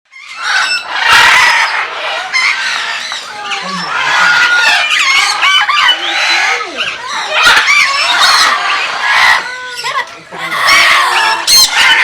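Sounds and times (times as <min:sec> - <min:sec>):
parakeets chattering and squawking: 0:00.1 - 0:12.0.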